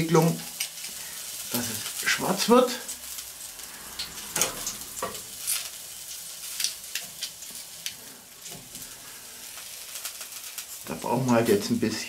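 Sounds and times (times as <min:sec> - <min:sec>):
meat sizzling over charcoal: 0:00.0 - 0:12.0
sharp crackles and clicks: 0:00.0 - 0:12.0.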